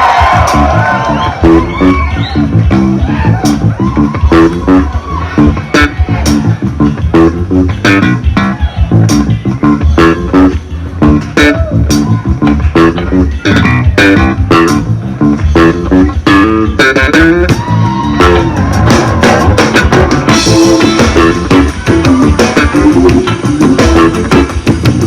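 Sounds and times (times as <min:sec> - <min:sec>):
bass guitar: 0:00.0 - 0:25.0
drums beat: 0:00.0 - 0:25.0
guitar band music: 0:00.0 - 0:25.0.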